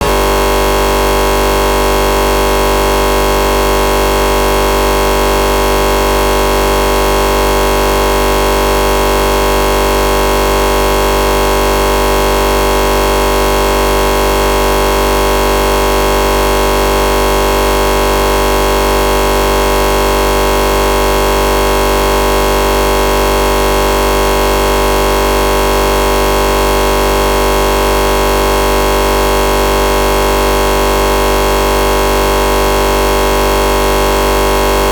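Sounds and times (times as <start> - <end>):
looping buzzing drone: 0.0 - 34.9.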